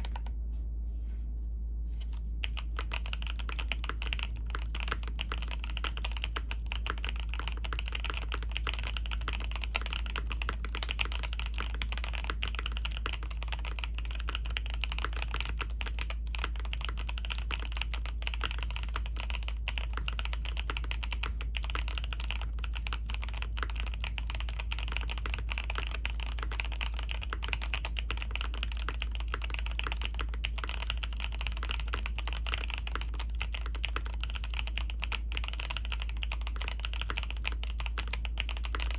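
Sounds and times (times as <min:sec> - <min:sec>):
mechanical keyboard typing: 0:00.0 - 0:00.3, 0:02.4 - 0:38.9
low hum: 0:00.0 - 0:38.9.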